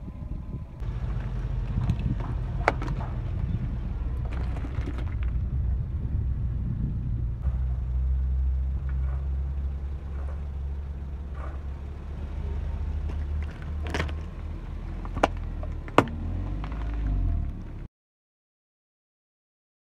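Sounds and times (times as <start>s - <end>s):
car engine rumbling: 0.0s - 17.9s.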